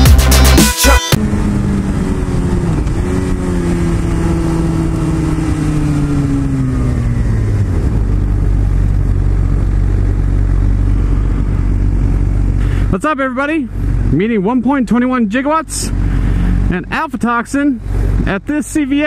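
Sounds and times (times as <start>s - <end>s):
motorcycle engine slowing: 0.0s - 19.0s.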